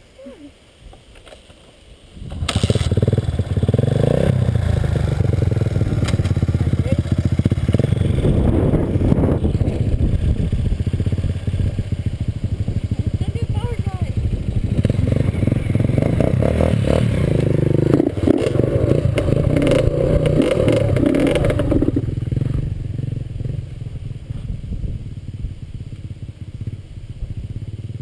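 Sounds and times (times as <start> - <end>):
dirt bike engine running: 2.2 - 28.0.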